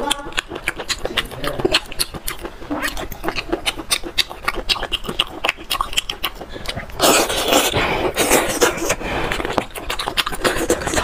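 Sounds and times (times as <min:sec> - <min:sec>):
wet smacking and sucking: 0:00.0 - 0:11.0.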